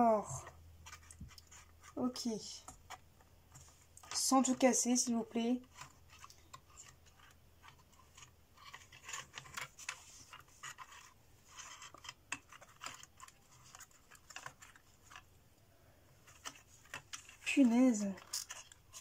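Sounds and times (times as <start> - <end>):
wooden parts clicking and scraping: 0.4 - 15.4, 16.1 - 19.0.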